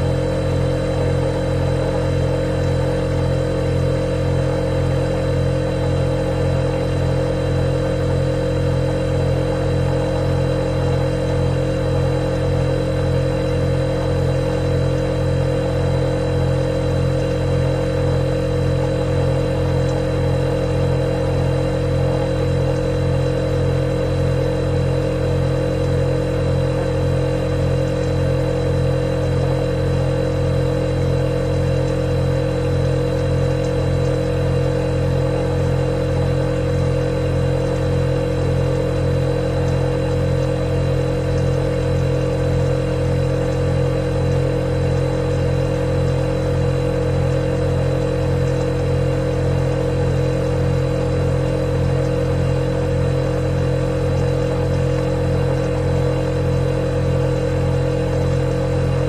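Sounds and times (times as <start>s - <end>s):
refrigerator humming: 0.0s - 59.0s.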